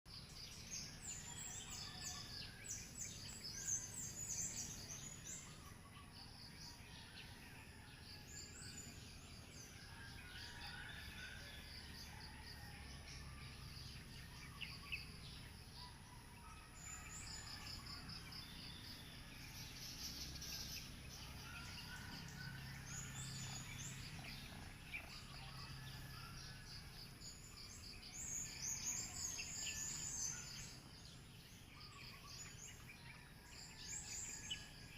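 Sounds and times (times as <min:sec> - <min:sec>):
birds chirping and calling: 0:00.2 - 0:34.9.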